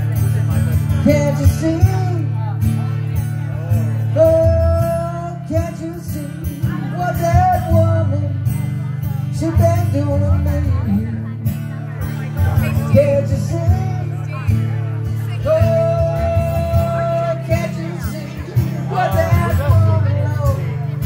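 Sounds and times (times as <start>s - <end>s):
man singing: 0.0s - 11.6s, 12.4s - 21.0s
strummed acoustic guitar: 0.0s - 21.0s.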